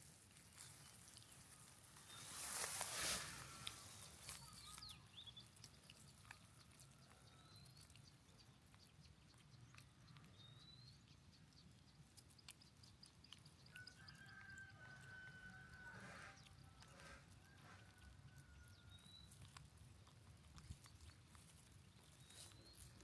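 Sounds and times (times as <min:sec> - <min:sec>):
small animal chirps and squeaks: 0:00.0 - 0:23.0.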